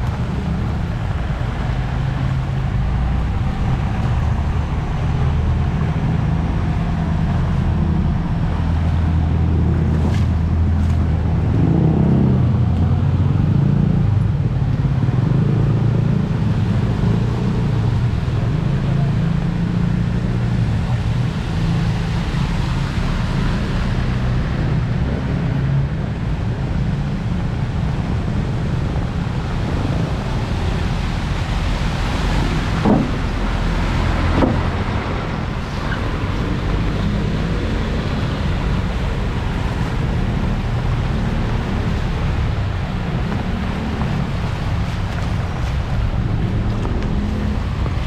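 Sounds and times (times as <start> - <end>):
heavy rain: 0.0 - 48.0
wind buffeting microphone: 0.0 - 48.0.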